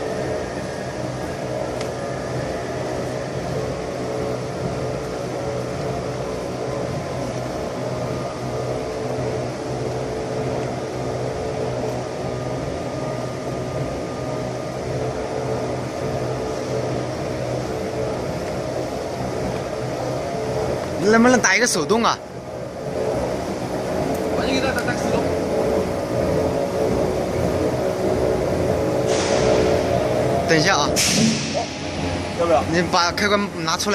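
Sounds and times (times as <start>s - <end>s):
machinery hum: 0.0s - 33.9s.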